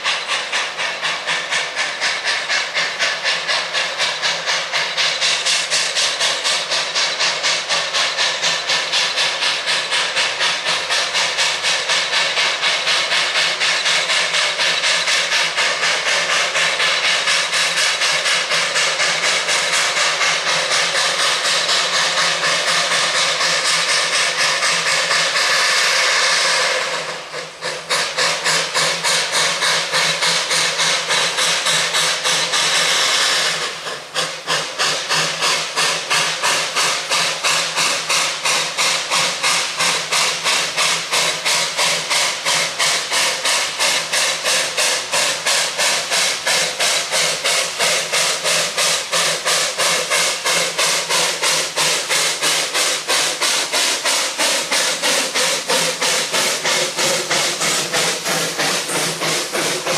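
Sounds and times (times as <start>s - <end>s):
loud steam hiss: 0.0s - 59.9s
steam locomotive chuffing: 0.0s - 59.9s.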